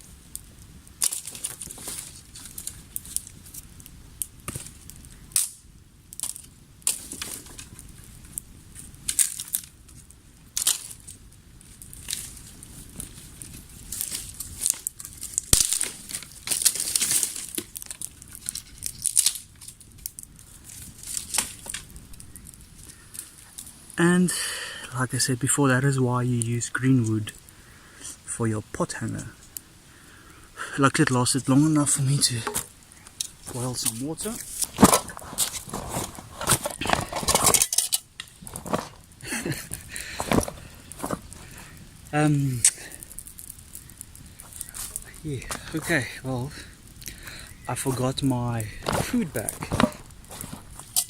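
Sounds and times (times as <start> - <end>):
crackling of leaves and twigs: 0.0 - 51.0.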